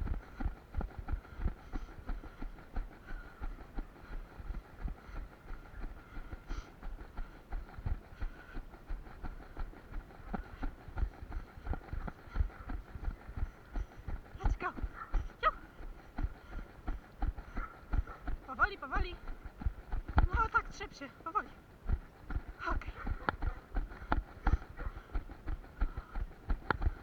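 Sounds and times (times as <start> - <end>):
footsteps running: 0.0 - 27.0.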